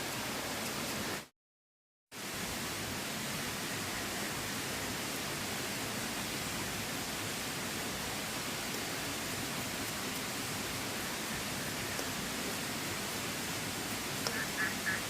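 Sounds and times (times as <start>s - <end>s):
river water rushing: 0.0s - 1.3s, 2.2s - 15.0s.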